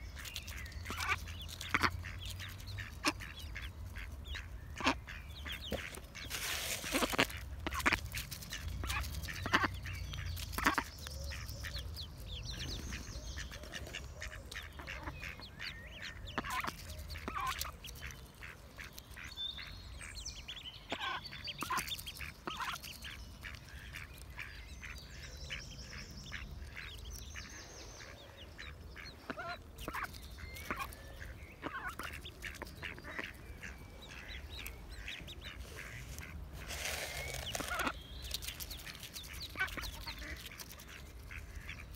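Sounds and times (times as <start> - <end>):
duck bills pecking at grain: 0.0 - 41.9
ducklings peeping: 0.0 - 41.9.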